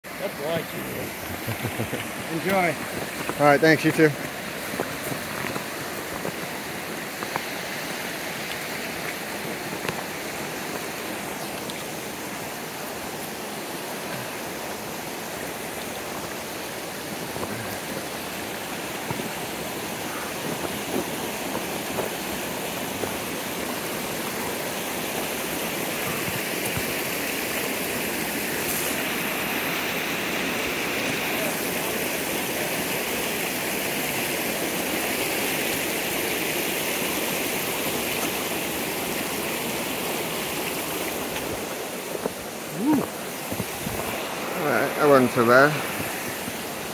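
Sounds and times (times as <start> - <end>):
stream running over rocks: 0.0 - 46.9.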